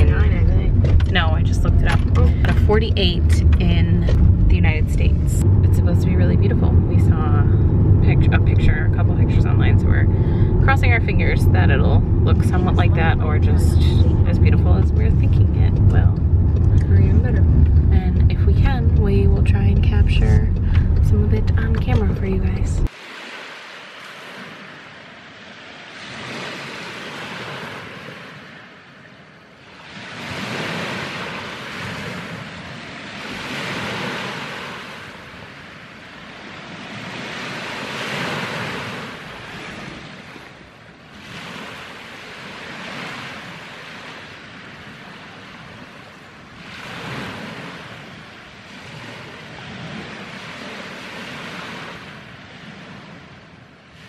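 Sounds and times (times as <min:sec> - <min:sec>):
waves washing onto shore: 0:00.0 - 0:54.0.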